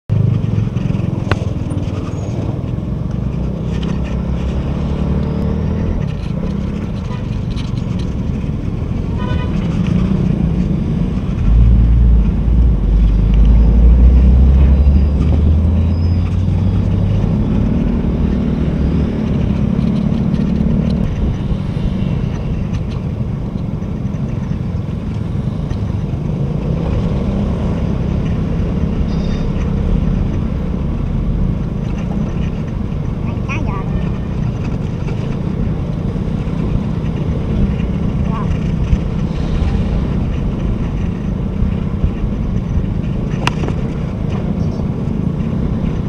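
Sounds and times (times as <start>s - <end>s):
city traffic: 0.1s - 46.0s
deep rumble: 0.1s - 46.0s
road noise: 0.1s - 46.0s.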